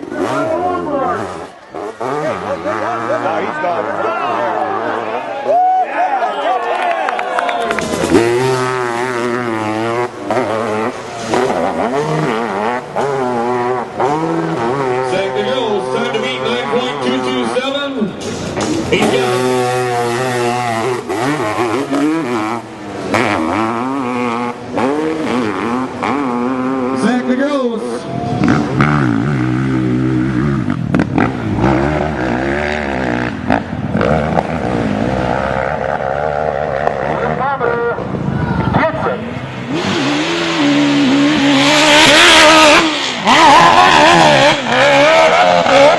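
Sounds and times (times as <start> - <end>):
motorcycle engine revving: 0.0 - 5.3, 7.6 - 45.9.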